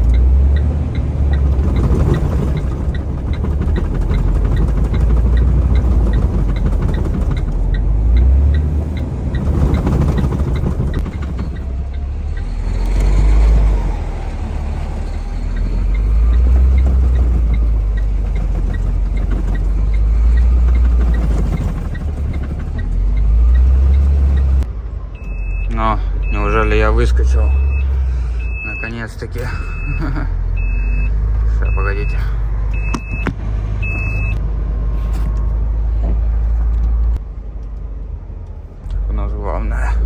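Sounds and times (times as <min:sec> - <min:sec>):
truck diesel engine labouring: 0:00.0 - 0:40.0.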